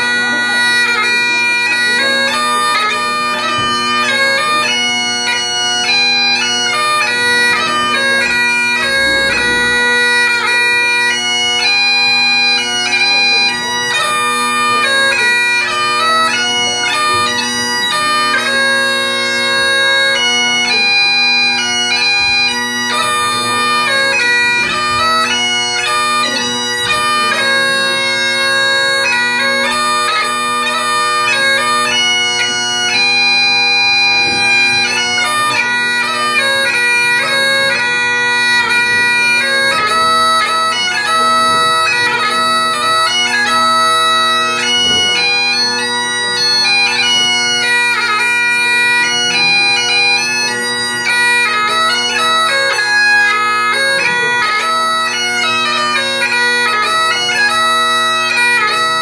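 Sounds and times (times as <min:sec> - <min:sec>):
bagpipe chanter melody: 0:00.0 - 0:59.0
bagpipe drones: 0:00.0 - 0:59.0.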